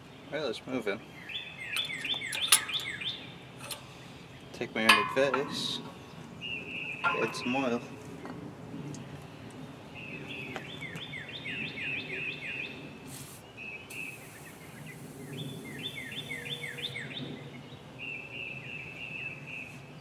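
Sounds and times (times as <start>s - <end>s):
bird singing: 0.0s - 20.0s.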